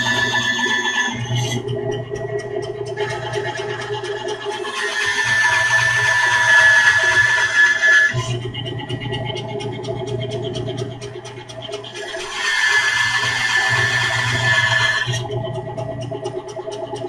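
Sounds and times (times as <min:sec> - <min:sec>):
power tool whining: 0:00.0 - 0:16.6.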